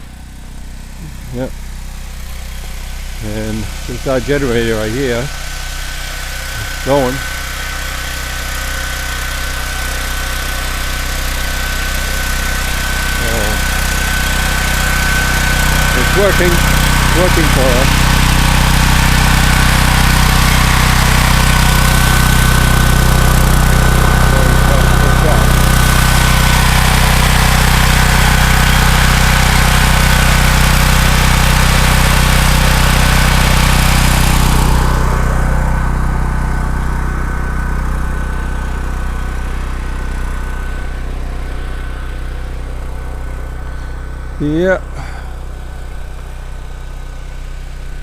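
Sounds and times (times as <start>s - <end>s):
generator engine humming: 0.0s - 48.0s.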